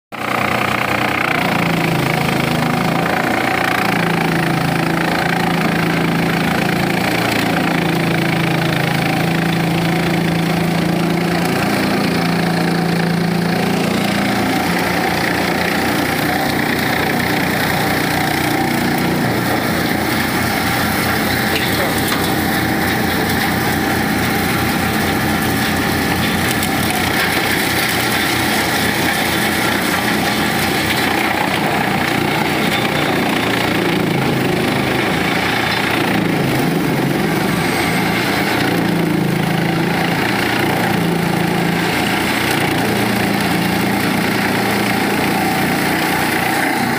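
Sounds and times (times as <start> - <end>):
wood chipper running: 0.1 - 46.9.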